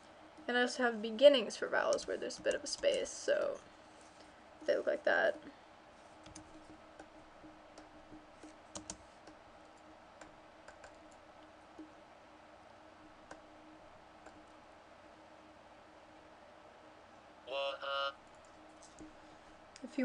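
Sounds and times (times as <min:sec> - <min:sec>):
faint steady hum and hiss: 0:00.0 - 0:20.0.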